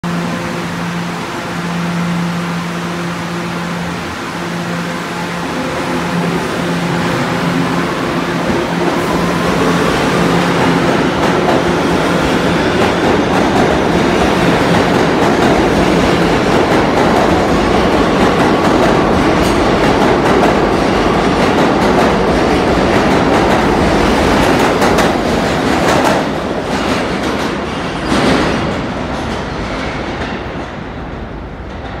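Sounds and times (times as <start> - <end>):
subway train propulsion whine: 0.0 - 32.0.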